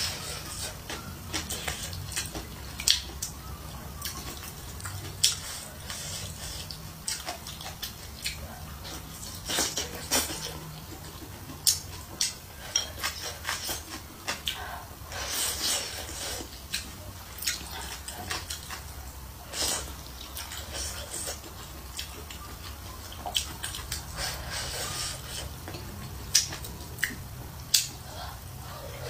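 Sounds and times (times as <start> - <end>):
lip smacks: 0.0 - 3.4, 4.0 - 18.9, 19.5 - 29.0
wet chewing: 0.0 - 29.0.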